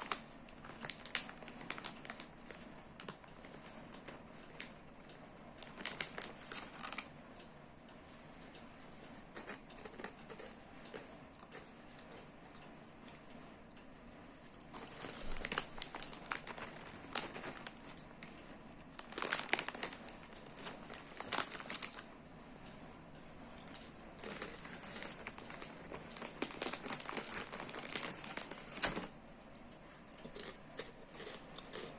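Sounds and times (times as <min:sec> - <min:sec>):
crinkling crackling rustles: 0:00.0 - 0:08.6, 0:09.4 - 0:31.9.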